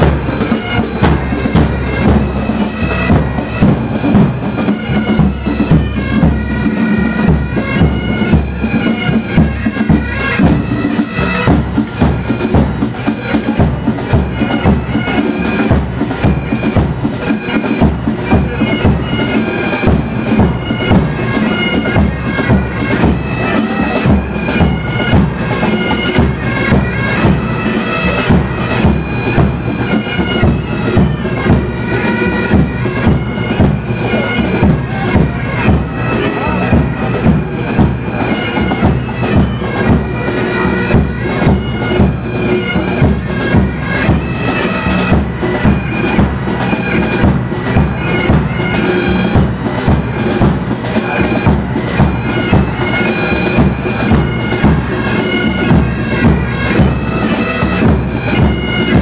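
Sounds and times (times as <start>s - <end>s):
bagpipes playing melody: 0.0s - 59.0s
drum beat: 0.0s - 59.0s.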